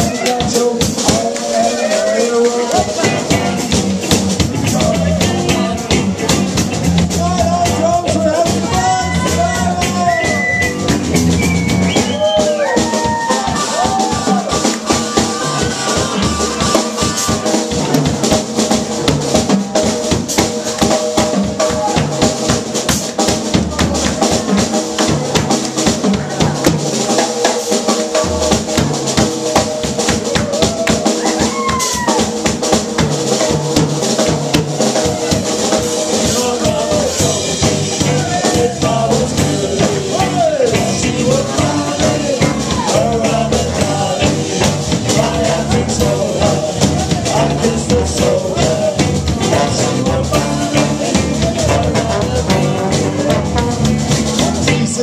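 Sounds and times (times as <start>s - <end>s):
bass: 0.0s - 55.0s
drum kit with cymbals: 0.0s - 55.0s
live band playing: 0.0s - 55.0s.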